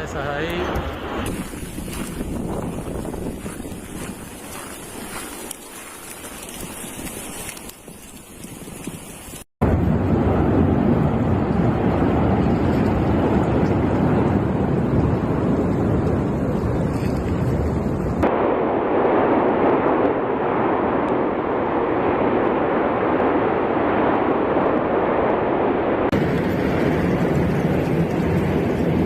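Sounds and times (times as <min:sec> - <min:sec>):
volcano erupting roar: 0:00.0 - 0:07.7, 0:09.6 - 0:29.0.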